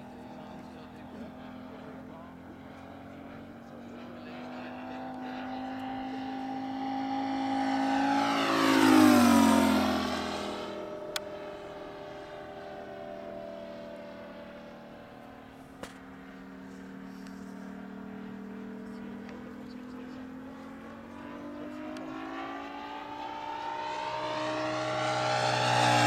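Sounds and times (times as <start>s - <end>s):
model plane engine drone: 0.0s - 26.0s.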